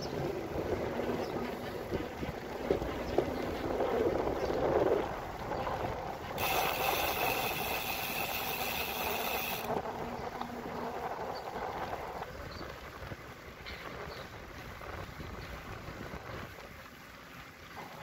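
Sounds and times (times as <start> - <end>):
wind and bicycle tyre noise: 0.0 - 18.0.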